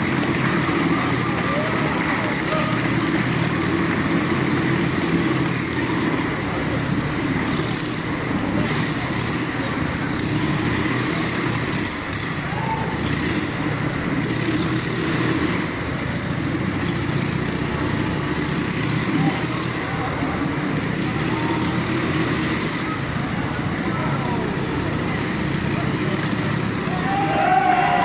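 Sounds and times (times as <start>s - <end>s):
motorcycle engine running: 0.0s - 27.4s.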